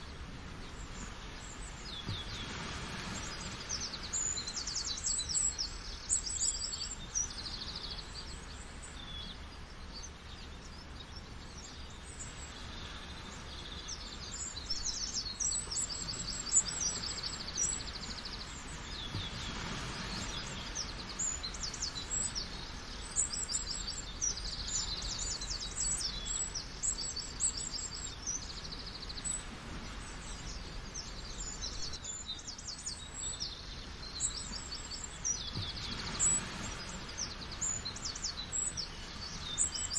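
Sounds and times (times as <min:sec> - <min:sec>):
rushing falling water: 0:00.0 - 0:39.9
small birds chirping: 0:00.0 - 0:39.9.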